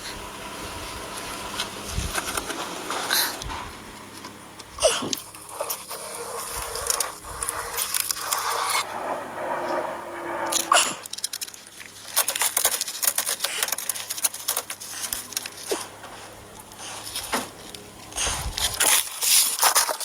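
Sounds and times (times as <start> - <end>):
crackling handling noises: 0.9 - 20.0.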